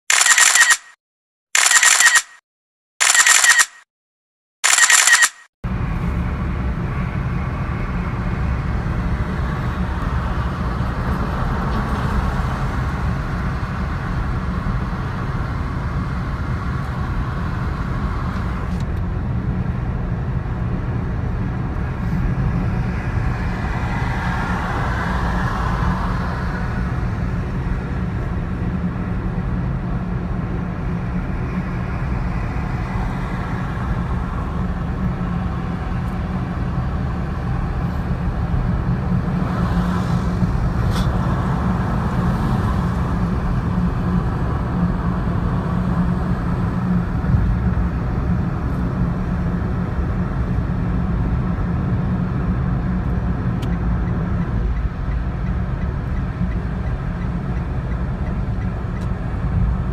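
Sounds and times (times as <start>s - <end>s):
motor vehicle rumble: 4.7s - 59.9s.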